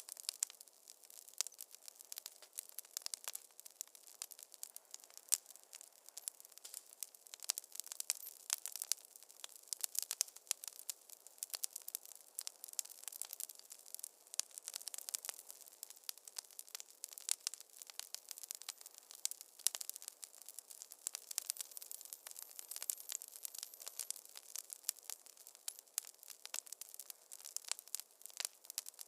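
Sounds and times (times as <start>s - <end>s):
faint fire hiss: 0.0s - 29.0s
wood fire crackling: 0.0s - 29.0s.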